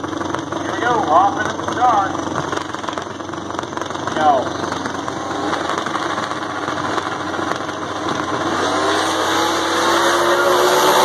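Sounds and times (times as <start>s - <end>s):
drag race car engines accelerating: 0.0s - 11.0s.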